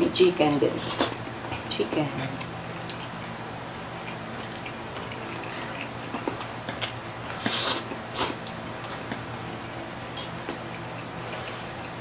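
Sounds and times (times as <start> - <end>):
crunching and smacking eating: 0.8 - 9.5, 10.4 - 12.0.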